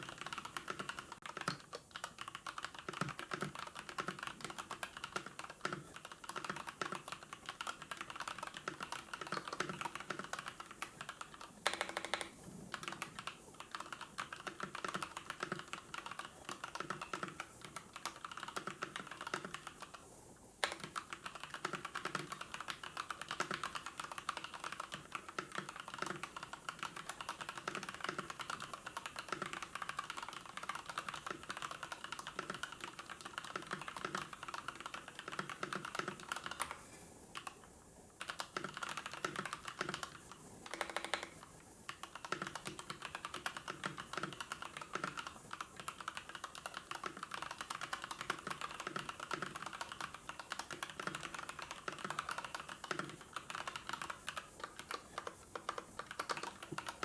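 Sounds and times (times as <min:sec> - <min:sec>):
fast typing on keyboard: 0:00.0 - 0:57.0.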